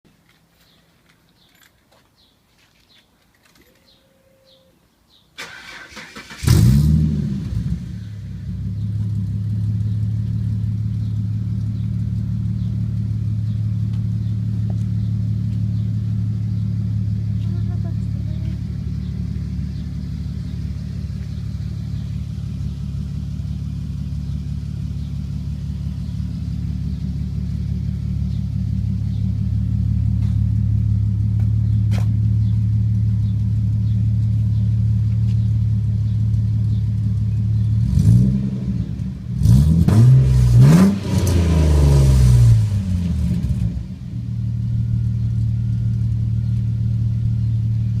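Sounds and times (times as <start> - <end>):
car engine idling and revving: 5.5 - 48.0.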